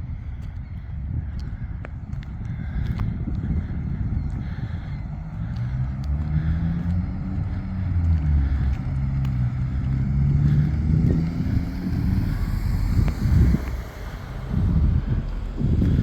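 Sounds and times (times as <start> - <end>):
car engine hum: 1.6 - 16.0.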